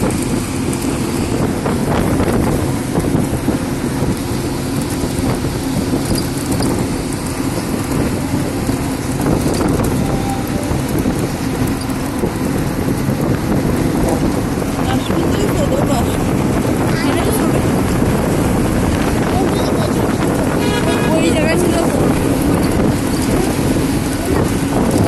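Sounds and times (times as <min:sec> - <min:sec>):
road vehicle rumble: 0:00.0 - 0:25.0
wind buffeting microphone: 0:00.0 - 0:25.0.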